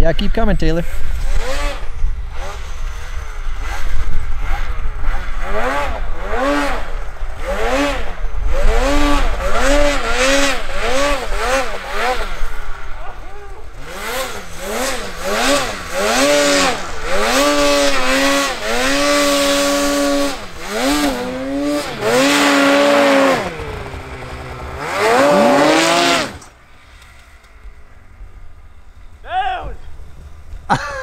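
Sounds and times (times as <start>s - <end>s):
snowmobile engine revving: 0.6s - 27.4s.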